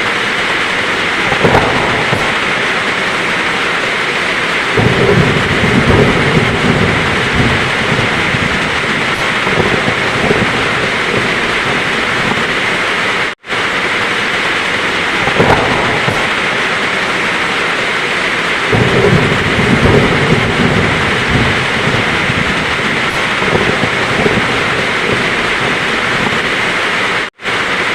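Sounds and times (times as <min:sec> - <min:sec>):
heavy rain falling: 0:00.0 - 0:27.9
rolling thunder: 0:00.0 - 0:27.9.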